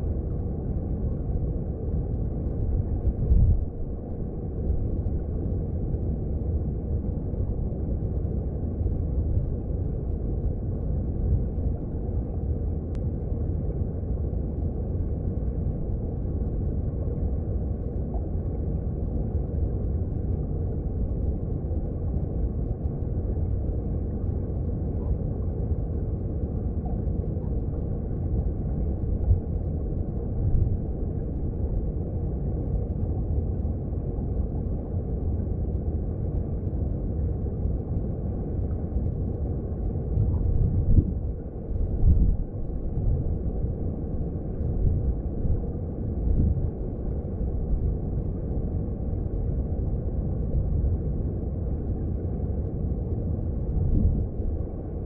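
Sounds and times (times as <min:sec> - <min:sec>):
underwater stream rumble: 0:00.0 - 0:55.0.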